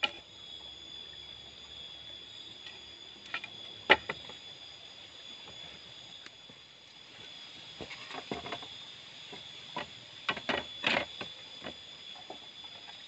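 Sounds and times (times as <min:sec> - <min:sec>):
night insect chorus: 0:00.0 - 0:13.0.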